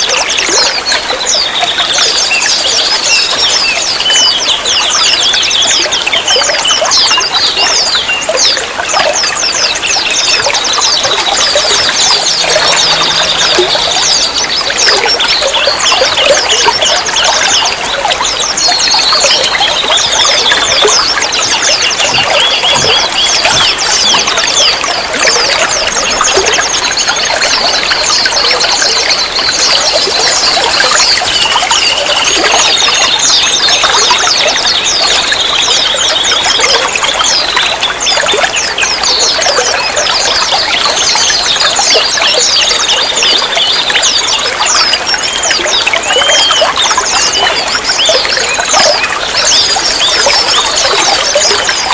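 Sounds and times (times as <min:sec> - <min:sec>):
water trickling and pouring: 0:00.0 - 0:51.9.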